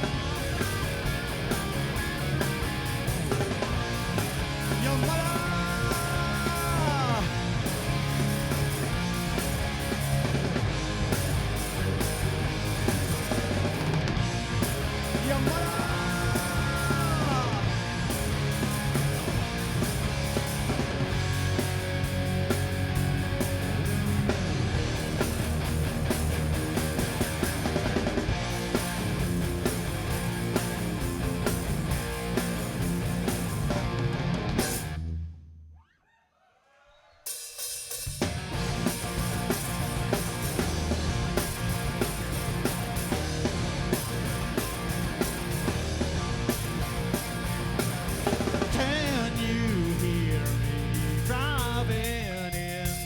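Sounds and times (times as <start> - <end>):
rock band playing: 0.0 - 35.1, 37.9 - 53.0.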